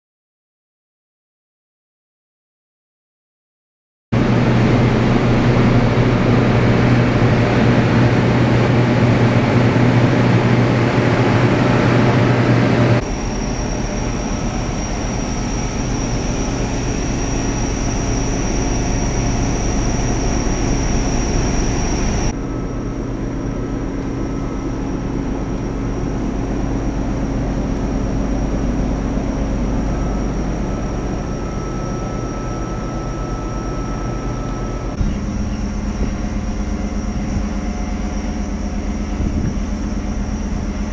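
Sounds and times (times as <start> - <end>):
ship machinery humming: 4.2 - 40.9
thin high whine: 4.2 - 40.9.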